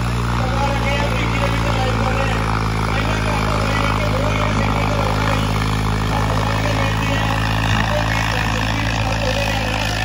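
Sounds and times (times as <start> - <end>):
faint voices: 0.0 - 10.0
tractor engine running: 0.0 - 10.0.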